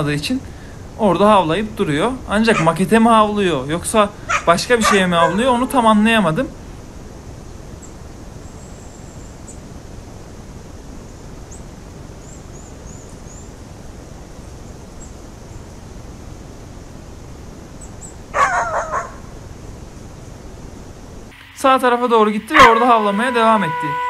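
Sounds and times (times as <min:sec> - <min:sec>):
woodland ambience hiss: 0:00.0 - 0:24.0.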